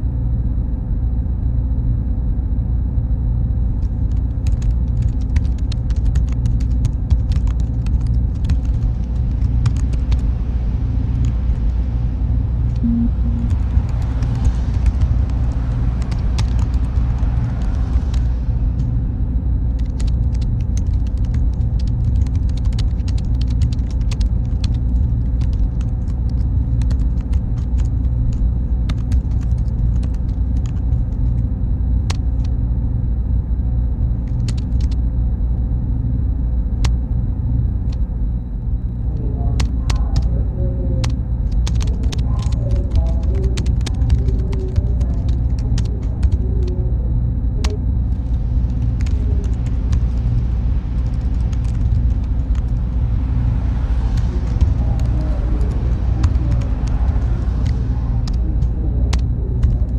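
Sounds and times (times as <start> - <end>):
server machinery humming: 0.0 - 59.9.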